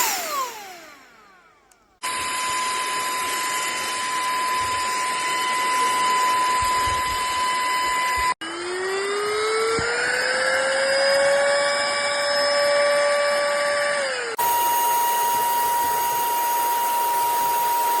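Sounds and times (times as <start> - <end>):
handheld vacuum motor whine: 0.0 - 18.0.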